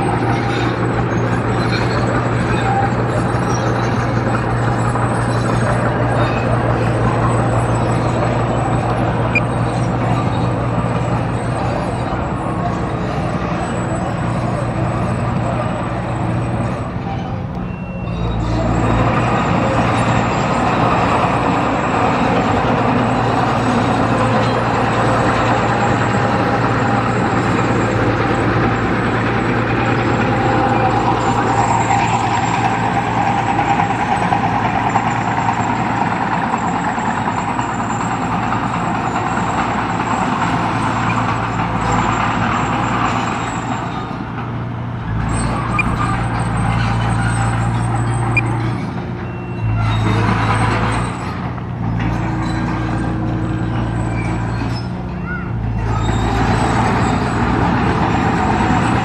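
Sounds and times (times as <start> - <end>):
heavy diesel engine clattering: 0.0 - 59.0.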